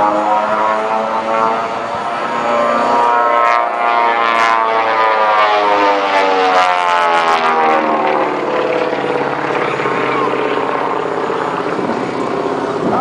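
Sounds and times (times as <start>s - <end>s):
airplane engine droning overhead: 0.0s - 13.0s.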